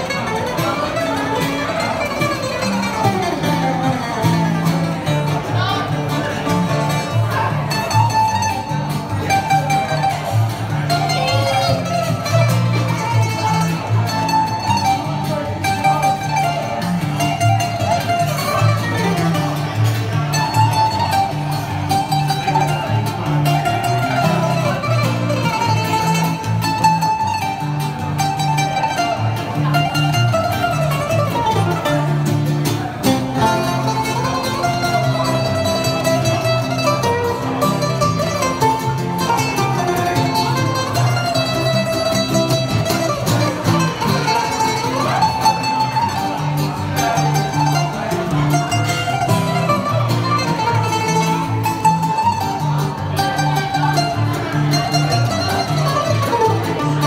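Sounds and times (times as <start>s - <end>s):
acoustic guitar strumming chords: 0.0s - 57.0s
bouzouki melody: 0.0s - 57.0s.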